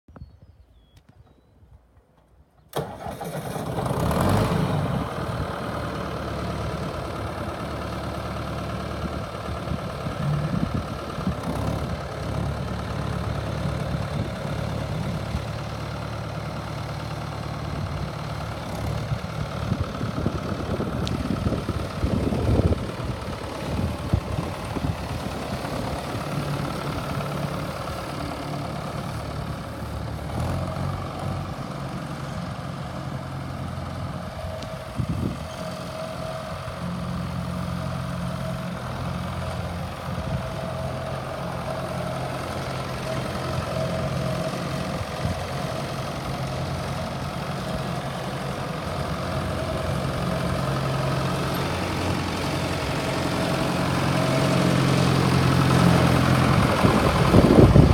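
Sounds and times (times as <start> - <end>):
tractor diesel engine idling: 2.7 - 57.9.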